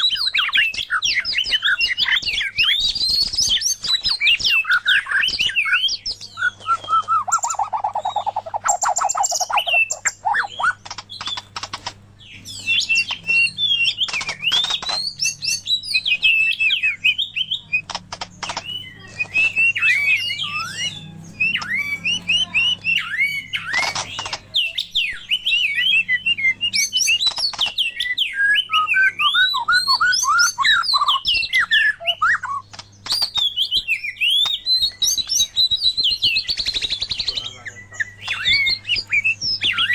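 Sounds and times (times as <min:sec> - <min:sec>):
songbirds whistling and chirping: 0:00.0 - 0:39.9.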